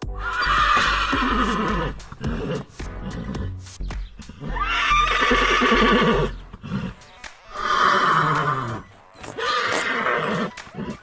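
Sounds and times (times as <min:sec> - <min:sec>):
horse whinnying: 0:00.2 - 0:03.3, 0:04.5 - 0:07.0, 0:07.6 - 0:11.0.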